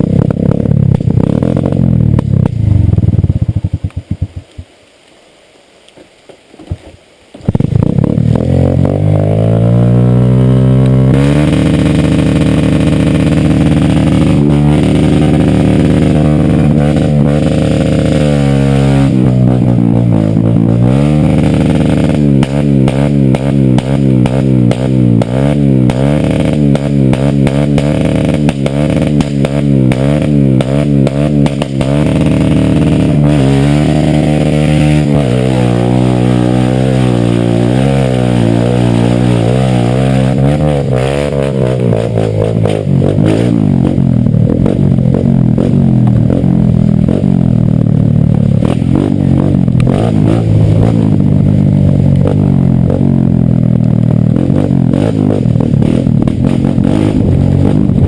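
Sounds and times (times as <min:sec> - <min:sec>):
off-road motorcycle engine revving: 0:00.0 - 0:04.5, 0:07.5 - 0:58.0.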